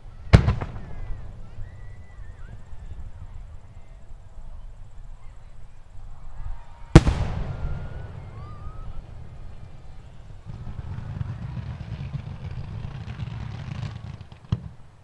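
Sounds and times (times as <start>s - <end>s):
firework bursting with echo: 0.0s - 4.2s, 6.9s - 15.0s.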